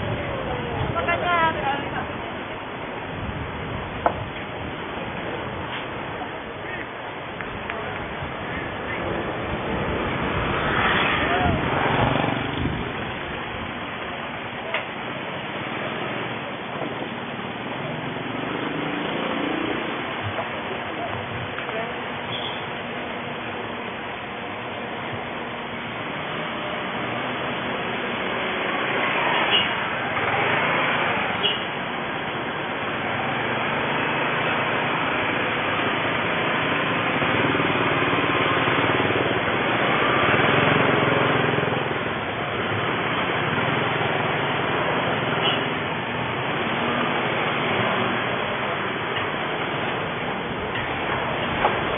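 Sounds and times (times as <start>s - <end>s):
car engine and road noise: 0.0s - 51.9s
noisy hiss: 0.0s - 51.9s.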